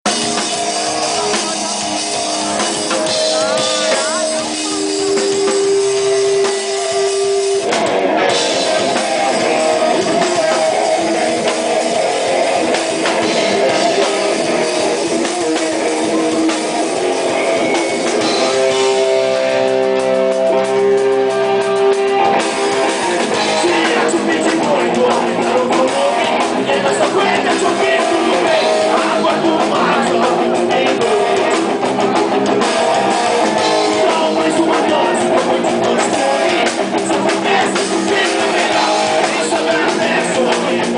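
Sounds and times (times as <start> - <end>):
drum kit: 0.0 - 40.9
electric guitar: 0.0 - 40.9
rock band playing live: 0.0 - 40.9.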